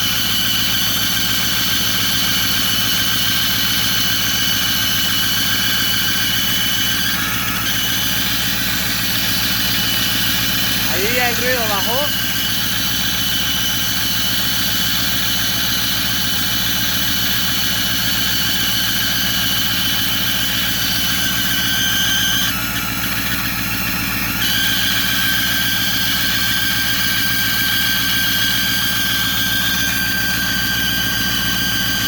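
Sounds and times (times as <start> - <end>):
diesel engine idling: 0.0 - 32.0
high-pitched squealing whistle: 0.0 - 32.0.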